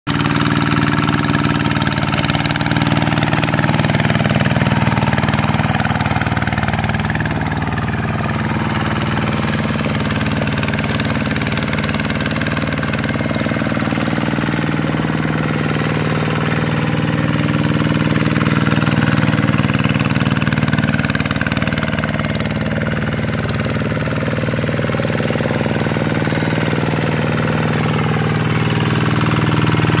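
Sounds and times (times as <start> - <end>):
diesel engine running under load: 0.1 - 30.0.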